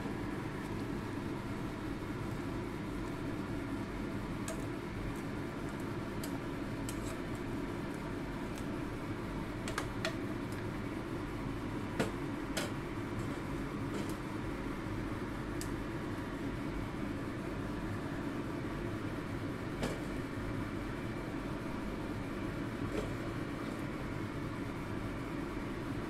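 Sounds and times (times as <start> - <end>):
low kitchen rumble: 0.0 - 26.0.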